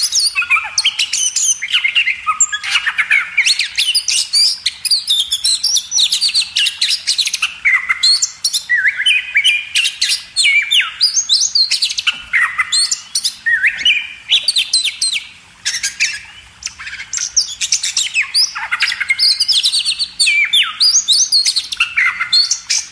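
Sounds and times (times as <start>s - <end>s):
birds chirping and calling: 0.0s - 22.9s.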